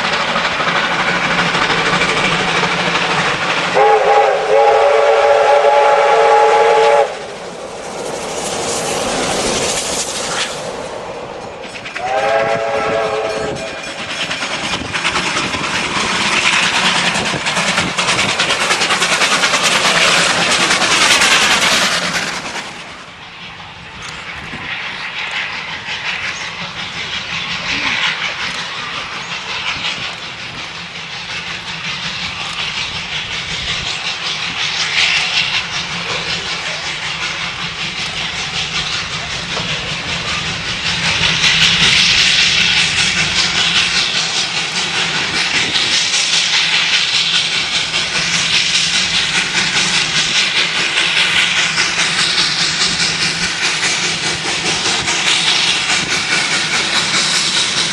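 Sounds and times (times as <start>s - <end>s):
steam hissing: 0.0s - 57.9s
steam locomotive exhaust chuffing: 0.0s - 57.9s.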